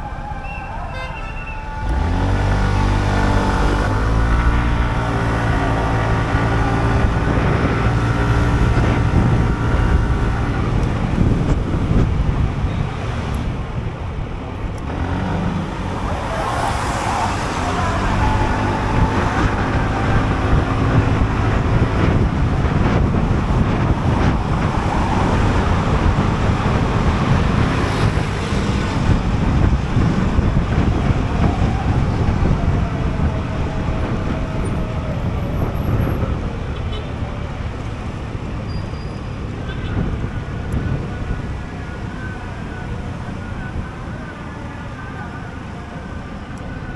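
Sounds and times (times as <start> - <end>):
other vehicles passing: 0.0 - 46.9
wind and road noise: 0.0 - 46.9.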